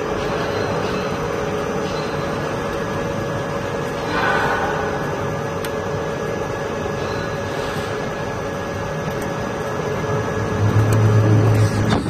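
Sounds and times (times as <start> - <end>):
deep loud hum: 0.0 - 12.0
lathe machine hum with whine: 0.0 - 12.0.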